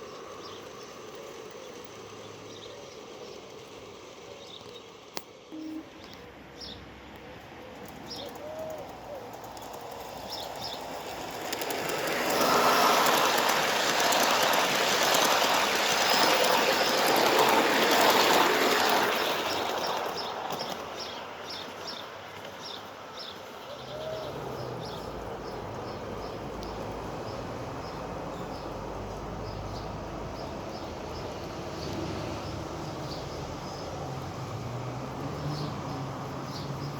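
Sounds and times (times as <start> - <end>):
model train wheels on rail: 0.0 - 36.9.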